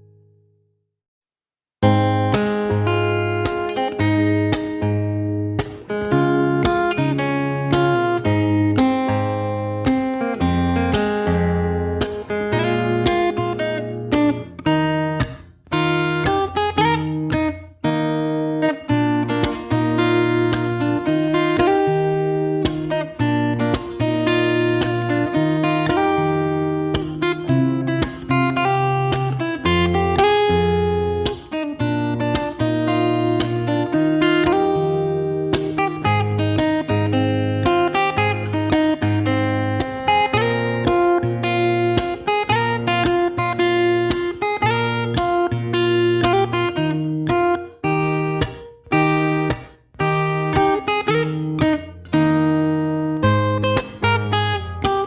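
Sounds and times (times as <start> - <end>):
acoustic guitar strummed and plucked: 1.8 - 55.0.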